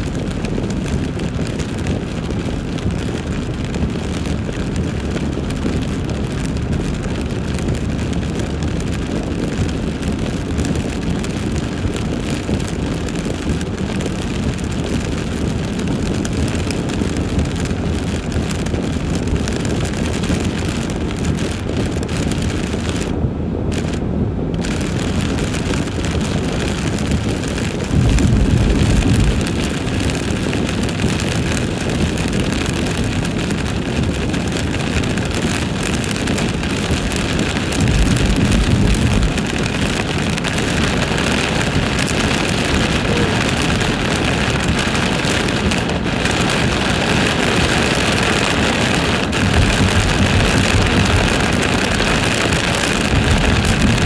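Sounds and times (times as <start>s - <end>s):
car road and tyre noise: 0.0s - 54.0s
low rumble: 0.0s - 54.0s
rain and wind hiss: 0.0s - 54.0s.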